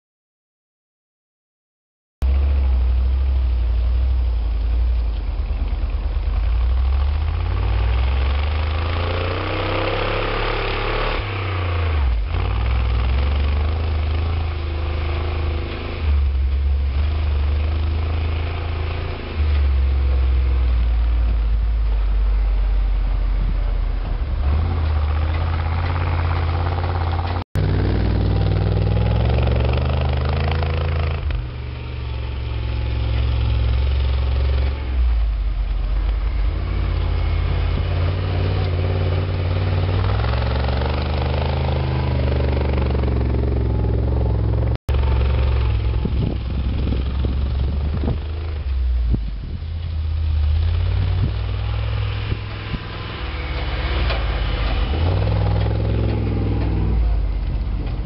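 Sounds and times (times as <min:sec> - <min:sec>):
truck engine revving: 0:02.2 - 0:58.0.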